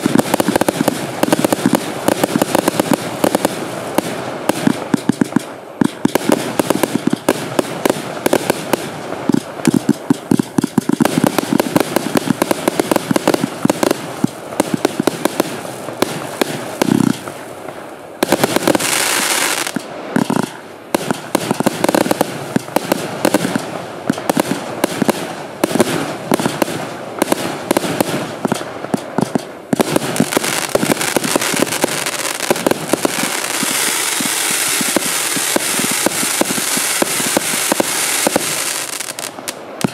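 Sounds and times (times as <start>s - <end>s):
fireworks hiss: 0.0s - 39.9s
fireworks launches and bursts: 0.0s - 39.9s.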